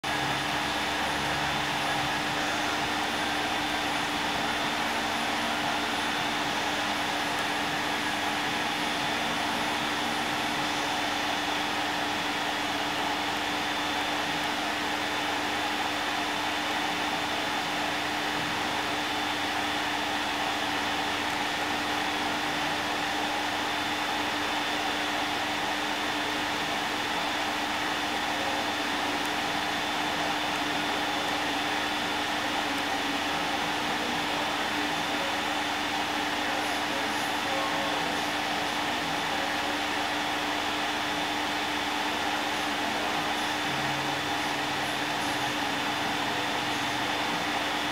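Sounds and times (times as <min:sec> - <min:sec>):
mechanical whir with hum: 0:00.0 - 0:47.9.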